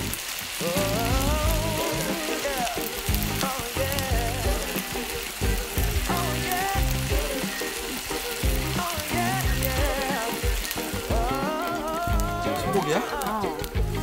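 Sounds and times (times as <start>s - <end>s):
fried rice sizzling in pan: 0.0s - 14.0s
background music with steady beat: 0.6s - 14.0s.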